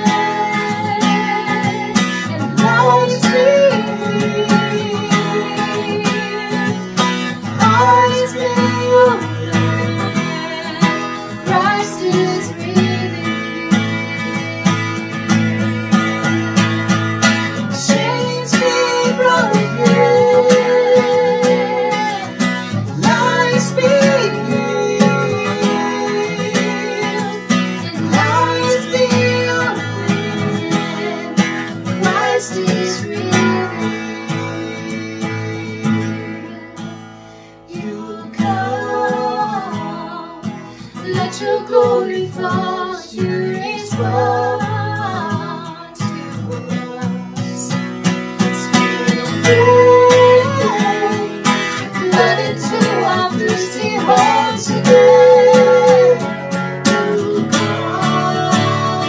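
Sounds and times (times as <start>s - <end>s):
acoustic guitar: 0.0s - 59.0s
person singing: 0.0s - 59.0s.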